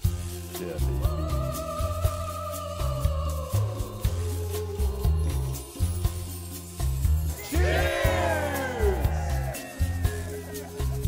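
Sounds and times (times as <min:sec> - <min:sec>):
background music with bass and beat: 0:00.0 - 0:11.0.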